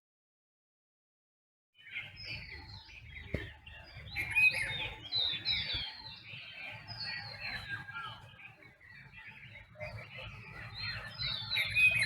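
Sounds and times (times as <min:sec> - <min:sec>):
songbirds chirping and whistling: 0:01.8 - 0:12.0.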